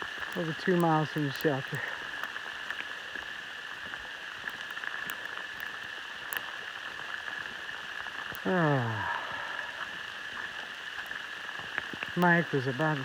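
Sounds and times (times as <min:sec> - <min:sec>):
ice pellets ticking: 0:00.0 - 0:13.0.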